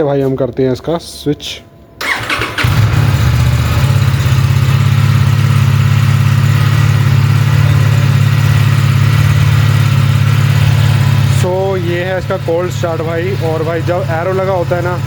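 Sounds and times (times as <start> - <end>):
motorcycle engine idling: 2.0 - 15.0.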